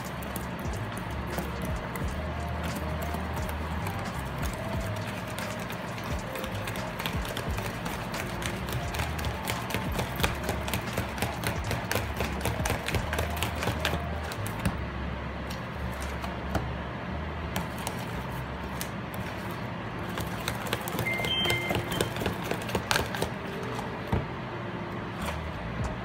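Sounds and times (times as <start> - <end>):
spoon stirring batter in plastic bowl: 0.0 - 14.8, 17.5 - 23.8.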